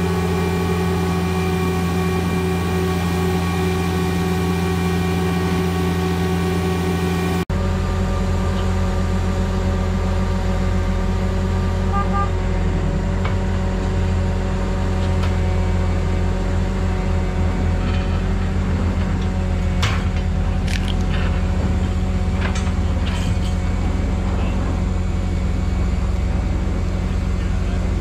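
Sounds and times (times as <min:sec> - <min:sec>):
diesel engines droning: 0:00.0 - 0:28.0.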